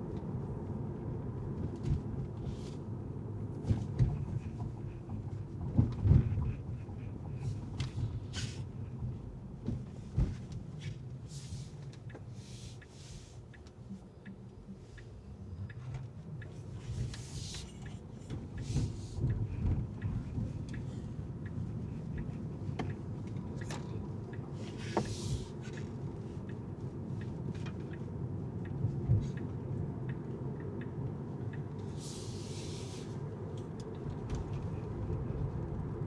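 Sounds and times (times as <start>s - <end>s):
low road rumble: 0.0s - 36.0s.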